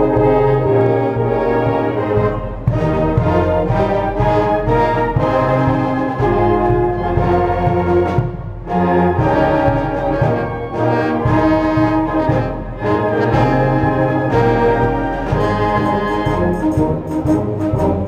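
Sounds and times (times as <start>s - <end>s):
concert band playing: 0.0s - 18.0s.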